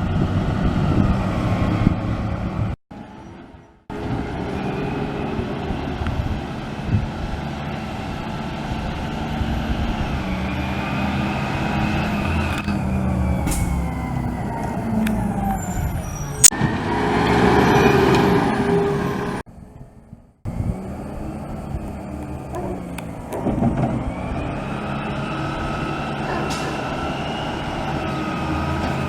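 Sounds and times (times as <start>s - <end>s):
truck engine running: 0.0s - 29.0s
brakes squealing: 0.9s - 29.0s.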